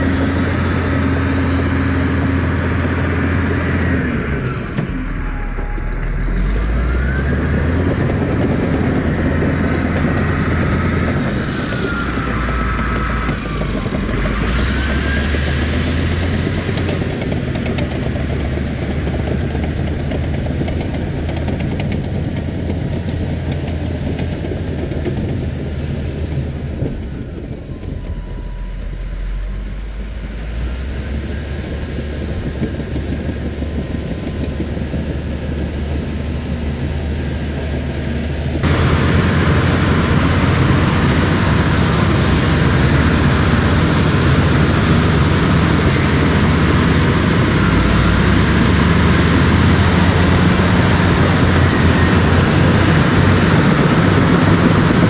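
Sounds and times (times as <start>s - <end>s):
earth-moving machine engine: 0.0s - 55.0s.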